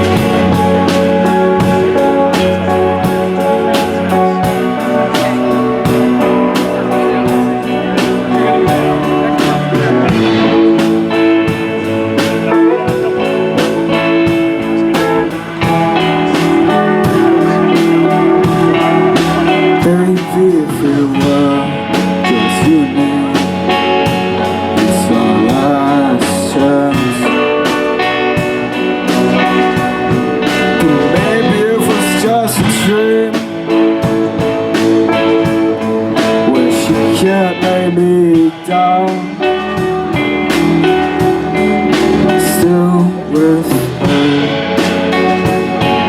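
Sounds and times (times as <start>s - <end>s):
bass: 0.0s - 46.0s
drum beat: 0.0s - 46.0s
electric guitar bent notes: 0.0s - 46.0s.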